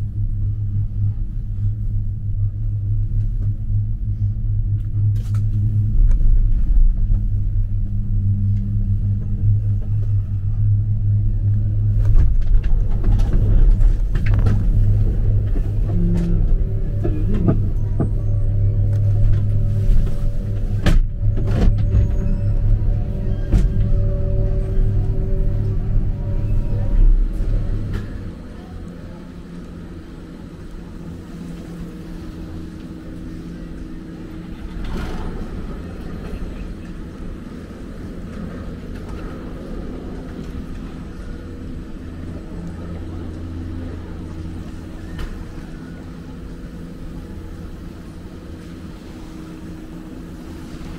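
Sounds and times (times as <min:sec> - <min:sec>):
gondola cabin humming: 0:00.0 - 0:50.9.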